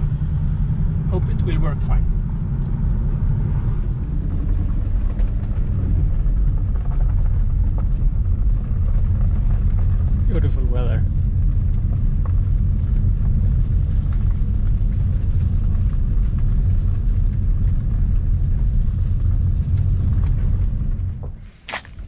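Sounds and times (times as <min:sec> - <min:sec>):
car engine rumble: 0:00.0 - 0:22.0
road noise inside car: 0:00.0 - 0:22.0.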